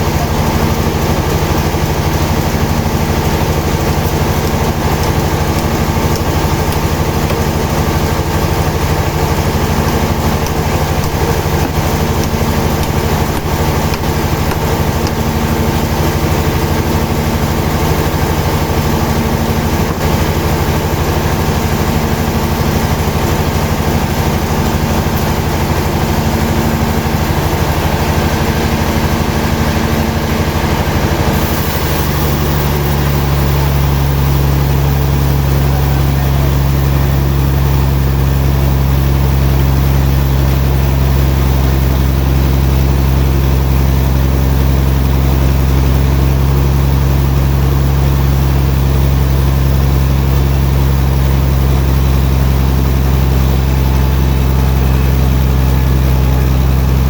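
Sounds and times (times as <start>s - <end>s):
sawmill machinery engine running: 0.0s - 57.0s.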